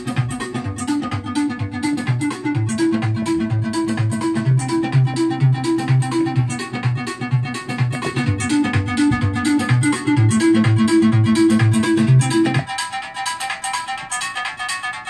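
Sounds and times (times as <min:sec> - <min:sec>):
repeating higher note pattern: 0:00.0 - 0:15.0.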